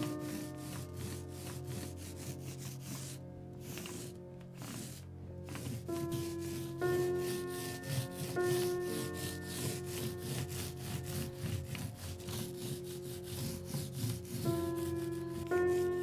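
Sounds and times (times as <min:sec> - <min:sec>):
background music: 0:00.0 - 0:16.0
paint roller rasping on plaster: 0:00.0 - 0:16.0.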